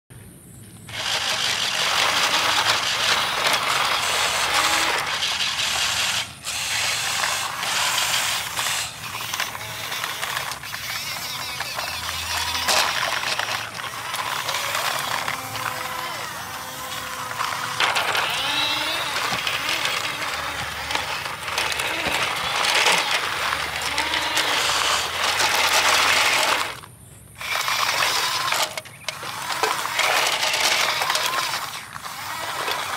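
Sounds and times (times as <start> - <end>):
toy gear motors whirring: 0.9 - 32.9.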